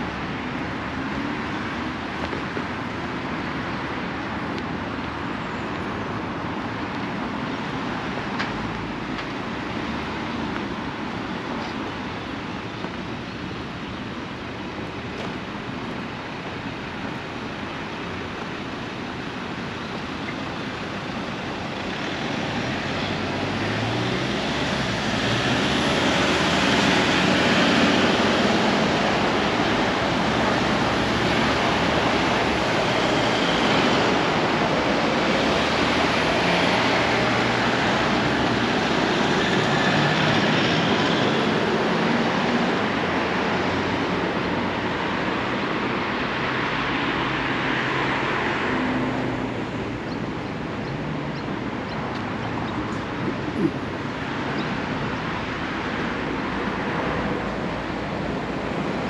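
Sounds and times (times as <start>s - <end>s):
road traffic rushing: 0.0s - 59.0s.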